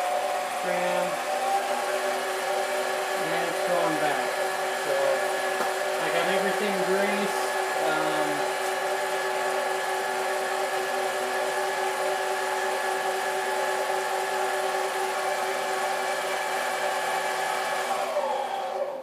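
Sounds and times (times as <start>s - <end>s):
lathe motor whine: 0.0s - 19.0s
mechanical hum: 0.0s - 19.0s.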